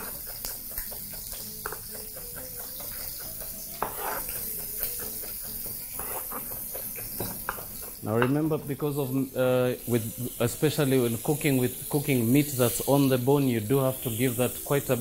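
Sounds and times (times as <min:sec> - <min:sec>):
ribs sizzling on a griddle: 0:00.0 - 0:15.0.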